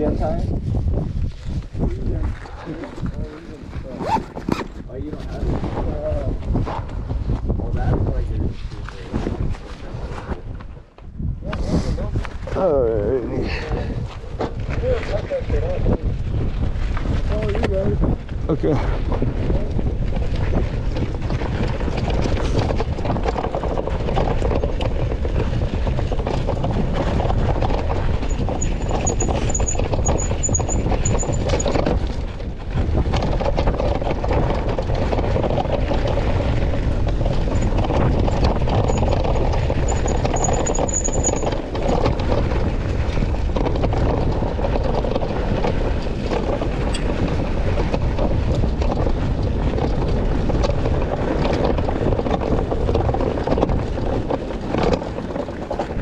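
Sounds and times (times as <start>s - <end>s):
tyres on rocky dirt trail: 0.0s - 56.0s
wind on microphone: 0.0s - 56.0s.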